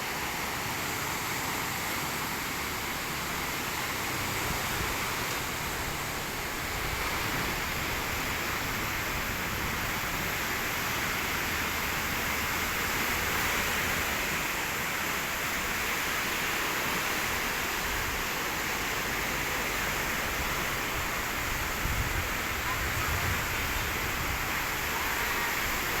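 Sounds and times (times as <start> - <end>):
sea surf rushing: 0.0 - 26.0.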